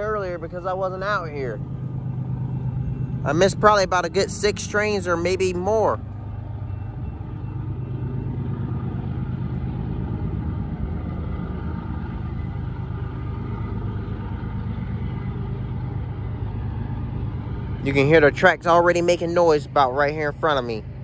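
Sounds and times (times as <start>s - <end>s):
diesel locomotives rumbling: 0.0s - 21.0s.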